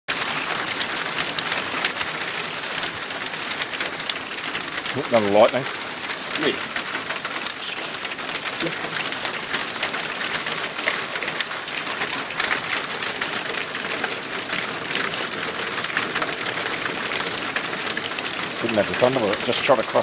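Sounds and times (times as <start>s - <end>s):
hail falling: 0.1s - 20.0s.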